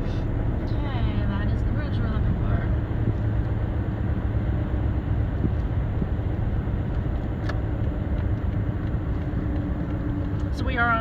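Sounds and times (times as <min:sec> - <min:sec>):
tyre and engine rumble: 0:00.0 - 0:11.0.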